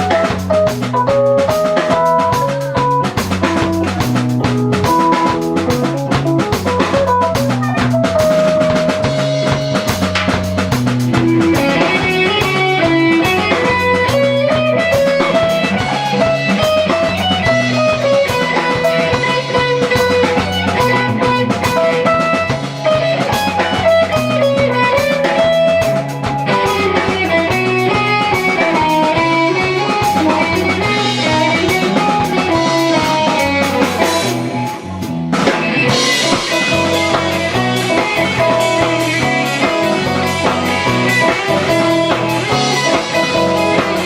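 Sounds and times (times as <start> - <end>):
bass guitar: 0.0 - 44.0
drum kit: 0.0 - 44.0
electric guitar long held notes: 0.0 - 44.0.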